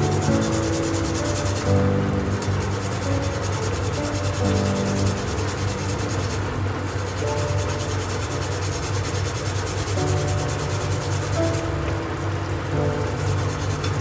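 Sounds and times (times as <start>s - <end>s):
rough rubbing or scraping: 0.0s - 11.7s
soft background music: 0.0s - 14.0s.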